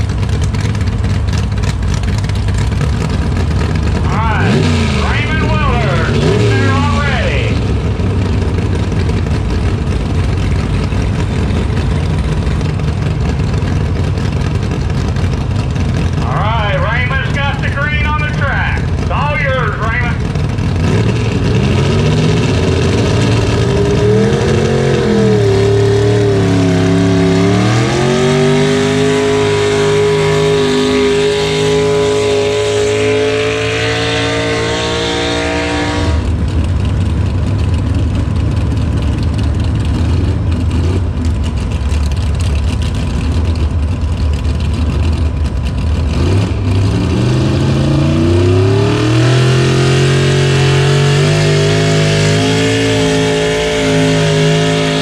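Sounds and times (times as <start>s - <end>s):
rough low engine rumble: 0.0s - 55.0s
truck engine revving: 0.0s - 55.0s.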